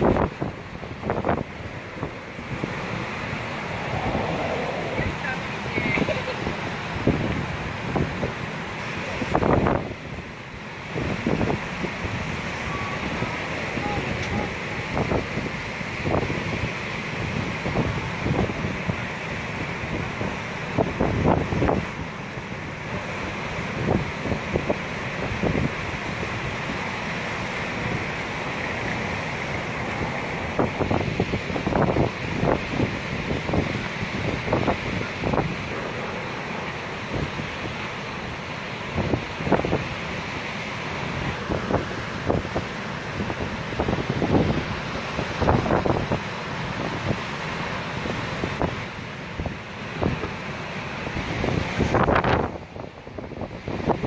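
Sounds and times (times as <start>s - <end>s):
wind buffeting microphone: 0.0s - 40.3s, 41.1s - 54.0s
breaking surf: 0.0s - 54.0s.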